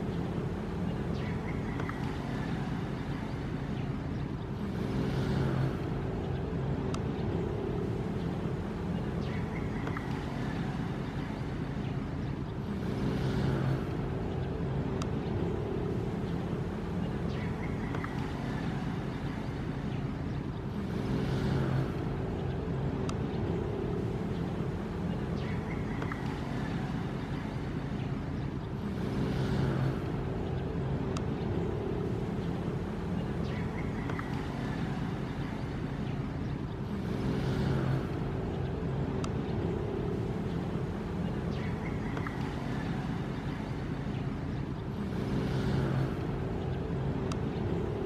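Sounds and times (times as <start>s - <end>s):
faint hum: 0.0s - 48.0s.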